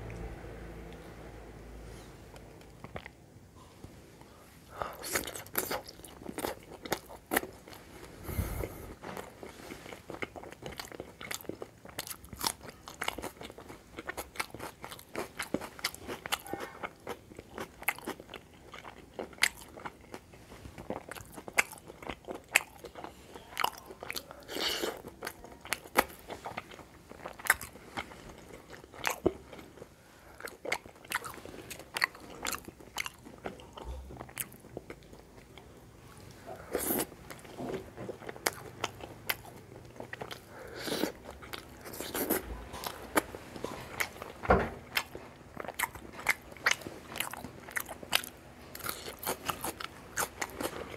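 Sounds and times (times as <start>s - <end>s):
chewing and biting: 5.0s - 7.9s, 8.6s - 35.6s, 36.6s - 50.9s.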